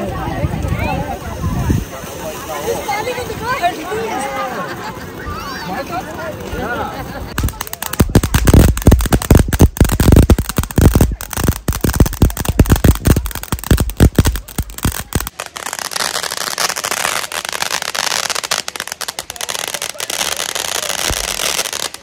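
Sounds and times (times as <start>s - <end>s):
crackling hiss: 0.0s - 22.0s
firecrackers banging: 0.1s - 22.0s.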